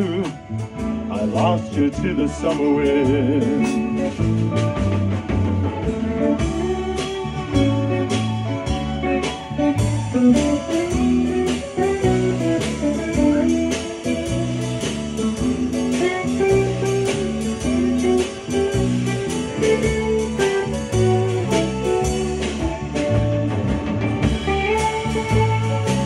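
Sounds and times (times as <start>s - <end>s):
live band playing: 0.0s - 26.0s
electric guitar solo: 3.0s - 26.0s.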